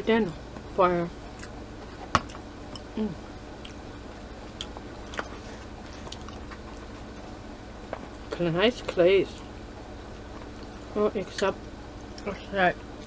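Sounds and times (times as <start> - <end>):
soft chewing: 0.6 - 13.0.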